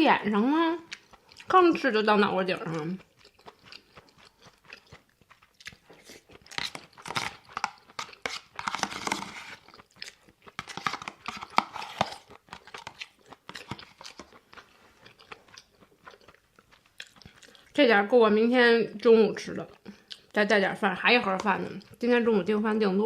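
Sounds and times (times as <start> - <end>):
person chewing crunchy food: 0.8 - 17.8, 19.0 - 20.4, 21.0 - 22.1.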